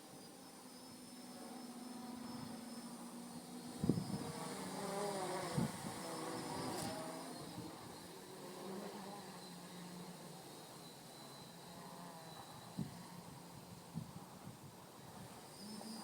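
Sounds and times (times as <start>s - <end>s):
quadcopter propellers buzzing: 0.0s - 16.0s.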